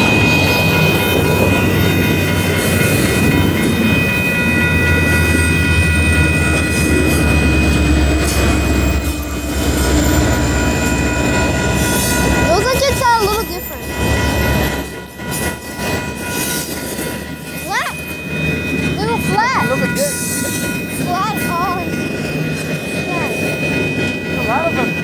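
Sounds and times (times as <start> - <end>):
diesel locomotive drone: 0.0 - 25.0
freight train rumble and rattle: 0.0 - 25.0.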